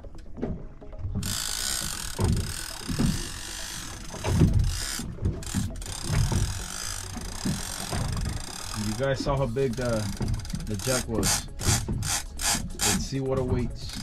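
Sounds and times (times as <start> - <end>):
dull low thumps: 0.0 - 14.0
fishing reel ratcheting: 1.2 - 14.0.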